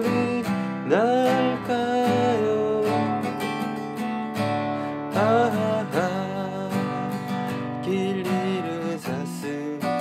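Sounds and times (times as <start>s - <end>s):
person singing: 0.0s - 4.0s, 4.9s - 10.0s
acoustic guitar strumming: 0.0s - 10.0s.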